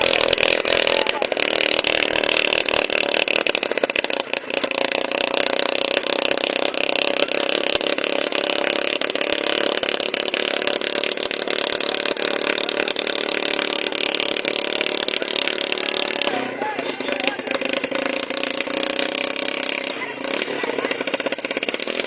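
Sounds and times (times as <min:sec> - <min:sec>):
helicopter whine and buzz: 0:00.0 - 0:22.0.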